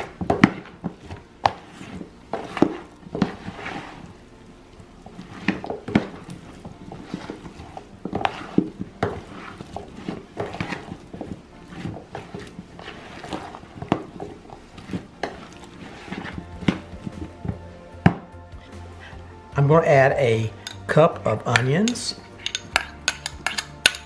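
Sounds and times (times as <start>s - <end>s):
metal spoon scraping plastic tub: 0.0s - 4.2s, 5.1s - 19.0s, 20.4s - 24.0s.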